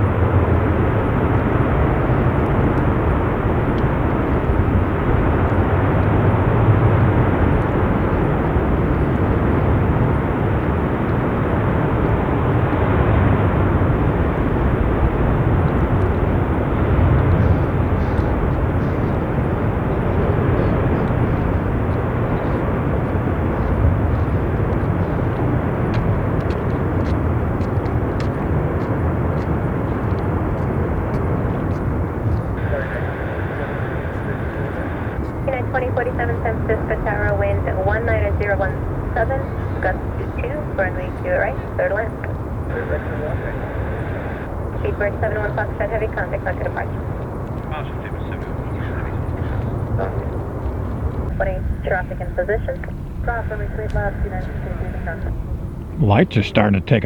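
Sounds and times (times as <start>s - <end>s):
wind rumble on microphone: 0.0s - 56.1s
jet engine noise: 0.0s - 57.0s.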